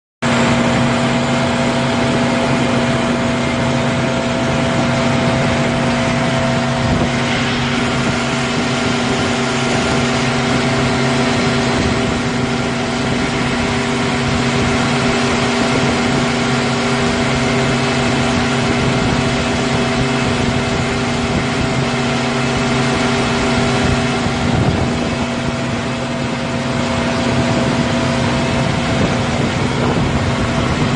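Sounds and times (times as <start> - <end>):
diesel generator engine droning: 0.2 - 30.9.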